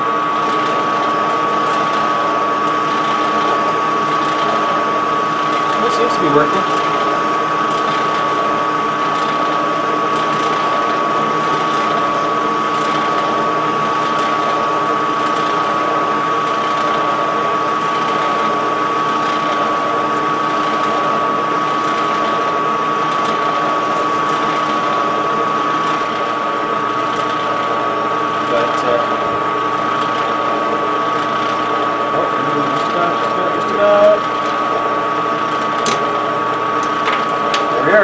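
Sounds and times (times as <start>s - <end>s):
metal lathe whirring and whining: 0.0s - 38.0s.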